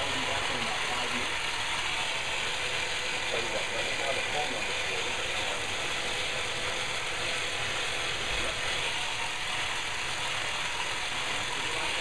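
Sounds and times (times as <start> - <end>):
therapy device rattling whir: 0.0 - 12.0.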